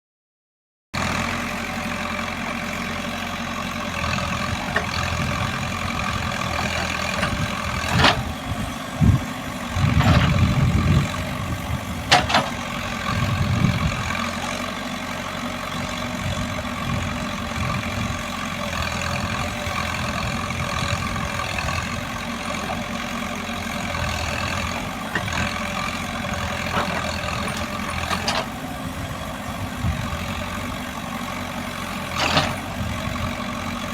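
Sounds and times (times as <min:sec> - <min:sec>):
diesel engine running: 0:01.0 - 0:33.9.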